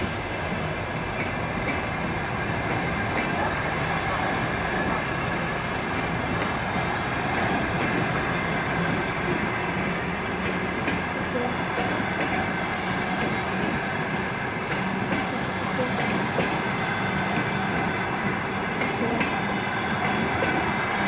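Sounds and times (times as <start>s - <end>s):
train wheels rolling on rails: 0.0s - 21.0s.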